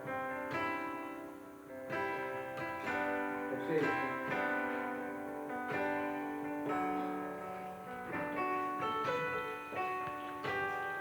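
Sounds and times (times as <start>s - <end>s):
slow electronic piano piece: 0.0s - 11.0s.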